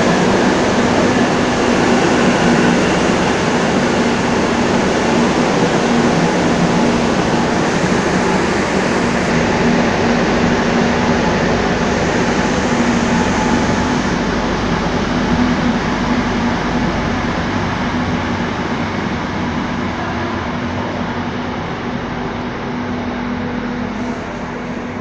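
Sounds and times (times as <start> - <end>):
electric train wheels rumbling on rail: 0.0 - 25.0.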